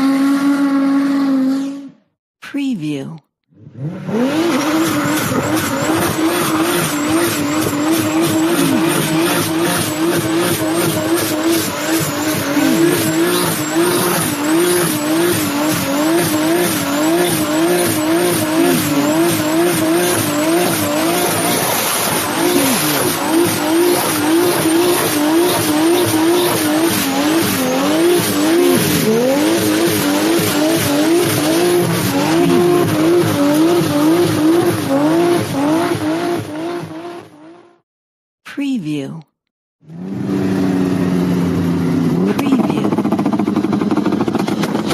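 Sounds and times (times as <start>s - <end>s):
wavering racing car engine: 0.0s - 2.0s, 3.5s - 37.8s, 39.8s - 44.9s.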